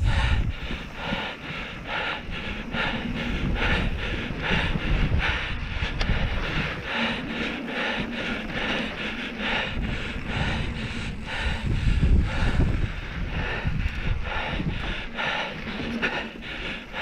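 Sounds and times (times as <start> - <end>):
bike tyres rolling on dirt: 0.0 - 17.0
wind rumbling on microphone: 0.0 - 17.0.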